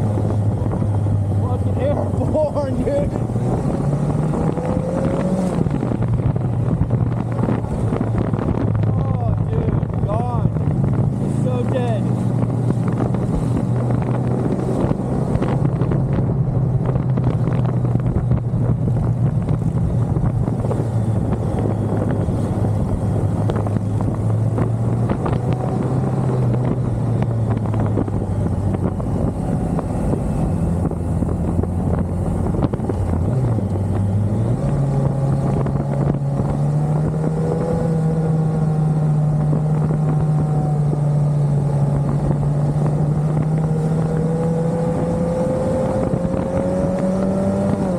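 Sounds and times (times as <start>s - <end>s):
motorcycle engine cruising: 0.0s - 47.9s
wind rush over microphone: 0.0s - 47.9s.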